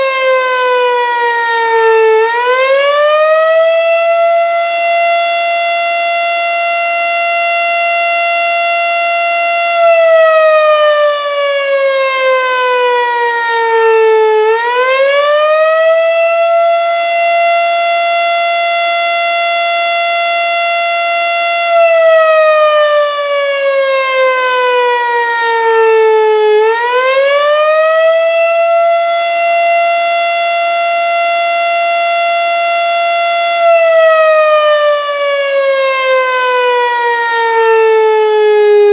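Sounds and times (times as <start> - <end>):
outdoor warning siren wavering: 0.0 - 38.9.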